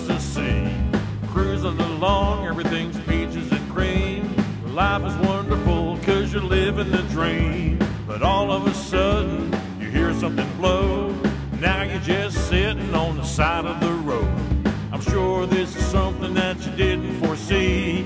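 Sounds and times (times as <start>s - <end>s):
country song: 0.0s - 18.0s.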